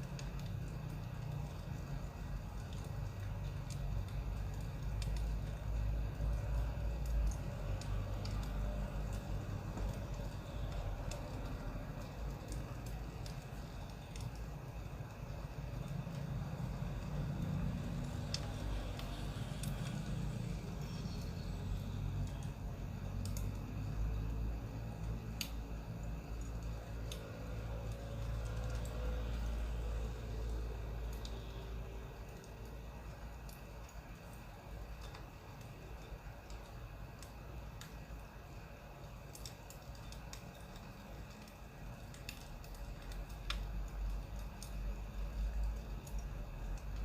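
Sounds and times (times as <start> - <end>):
low steady rumble: 0.0 - 47.0
wood fire crackling: 0.0 - 47.0.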